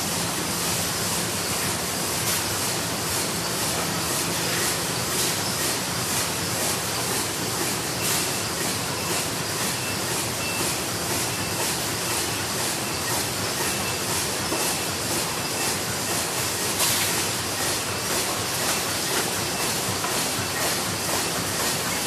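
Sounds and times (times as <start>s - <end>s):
machines clattering and hissing: 0.0s - 22.0s.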